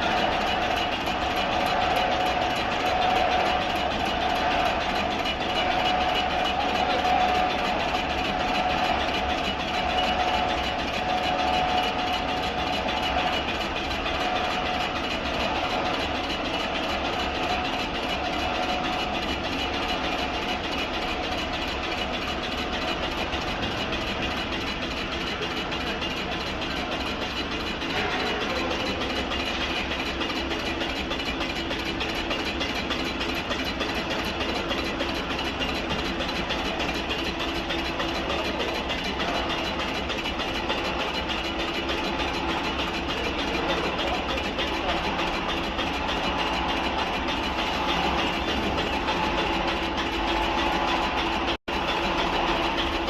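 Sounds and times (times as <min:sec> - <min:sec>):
thin machine whine: 0:00.0 - 0:53.0
wood lathe turning log: 0:00.0 - 0:53.0.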